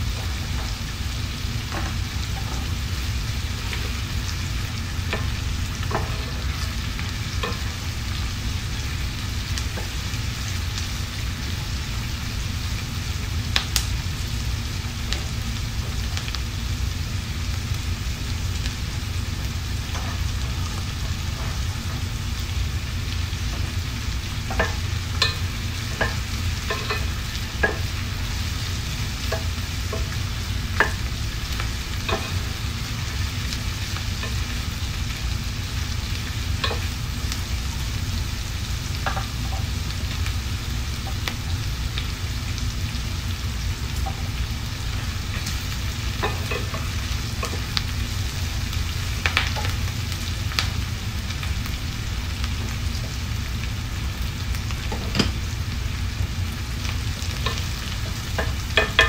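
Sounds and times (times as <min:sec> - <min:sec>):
steady low hum: 0:00.0 - 0:59.0
vegetables sizzling in hot oil: 0:00.0 - 0:59.0.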